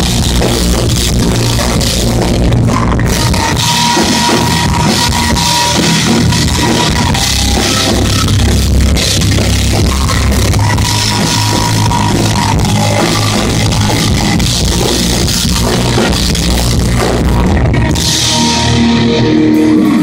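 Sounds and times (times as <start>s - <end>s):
bass guitar: 0.0s - 20.0s
distorted electric guitars: 0.0s - 20.0s
drum kit: 0.0s - 20.0s.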